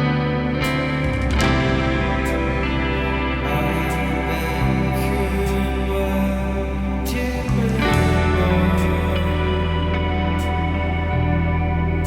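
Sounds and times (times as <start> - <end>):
rock band with ringing guitar chords: 0.0 - 12.0.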